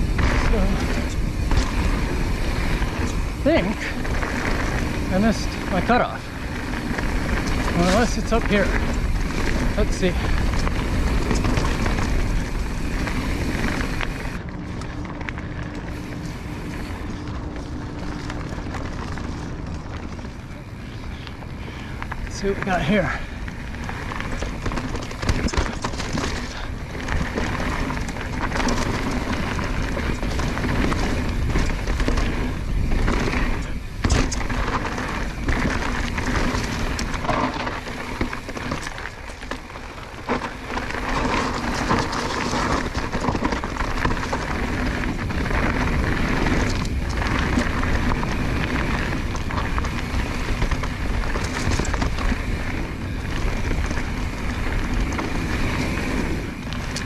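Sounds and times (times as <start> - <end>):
bike knocks and rattles: 0.0 - 57.0
bike tyres rushing on dirt: 0.0 - 57.0.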